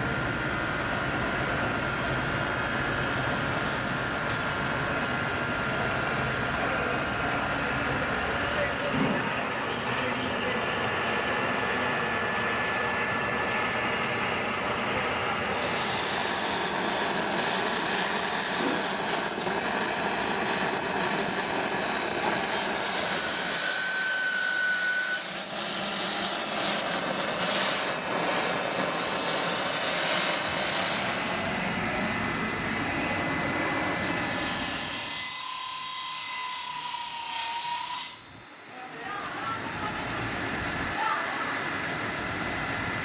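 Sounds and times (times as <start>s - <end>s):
loud machinery noise: 0.0s - 35.6s, 38.1s - 43.0s.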